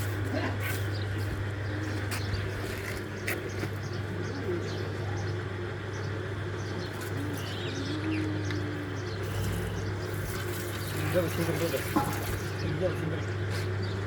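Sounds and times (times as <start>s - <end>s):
small birds chirping: 0.0s - 14.0s
dove cooing: 1.0s - 13.8s.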